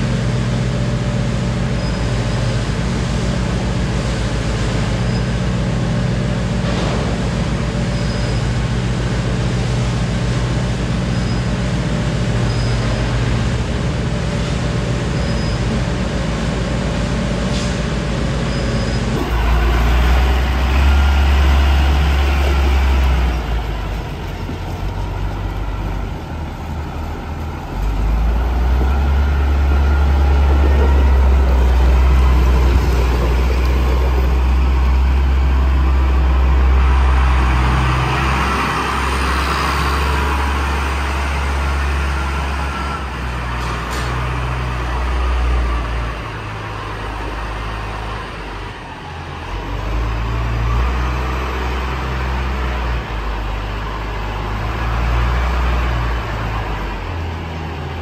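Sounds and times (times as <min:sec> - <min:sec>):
tractor diesel engine rumbling: 0:00.0 - 0:58.0.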